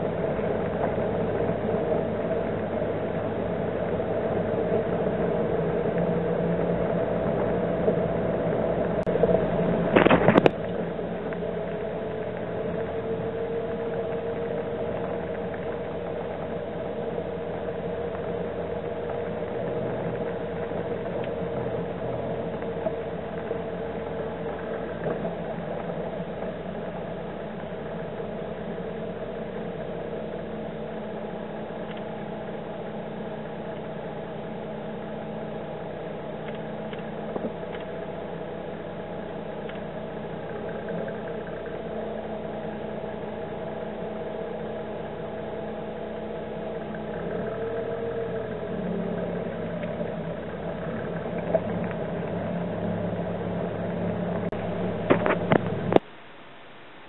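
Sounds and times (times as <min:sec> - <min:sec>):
car engine humming: 0:00.0 - 0:56.7.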